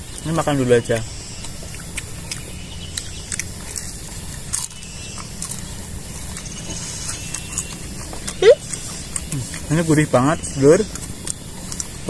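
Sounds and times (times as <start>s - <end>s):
crunchy biting and chewing: 0.0s - 12.0s.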